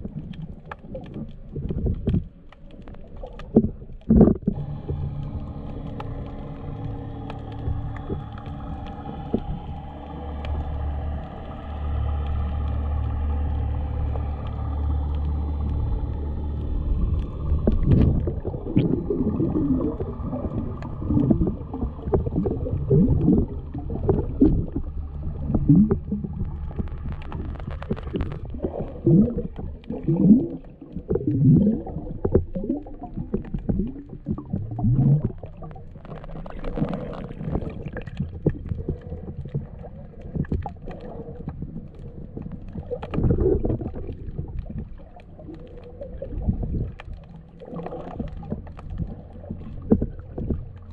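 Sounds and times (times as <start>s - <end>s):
low bubbling: 0.0s - 50.9s
underwater gurgling and sloshing: 0.0s - 50.9s.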